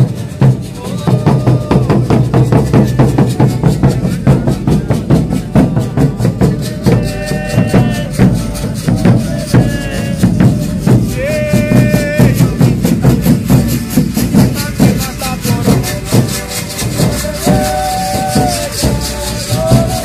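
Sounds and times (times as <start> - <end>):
hand drums beating fast rhythm: 0.0 - 20.0
held musical notes: 0.0 - 20.0.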